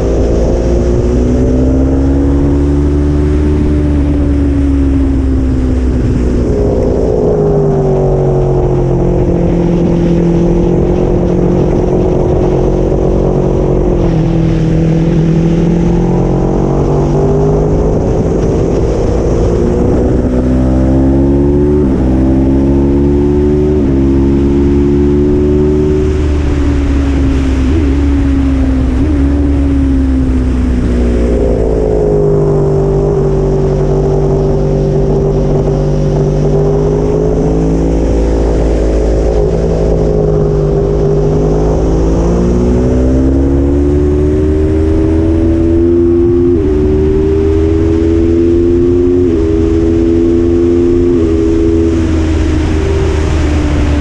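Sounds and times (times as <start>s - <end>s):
motorcycle engine at speed: 0.0s - 54.0s
wind rush: 0.0s - 54.0s.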